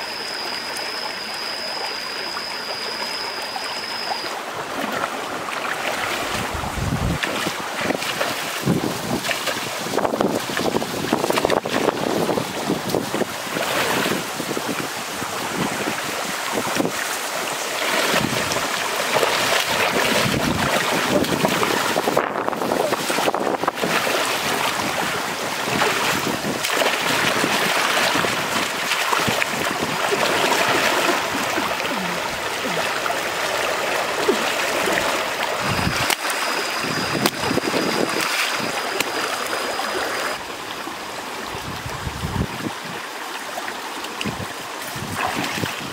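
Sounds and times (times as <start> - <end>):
splashing in water: 0.0 - 40.5, 41.6 - 45.9
stream rushing over rocks: 0.0 - 45.9.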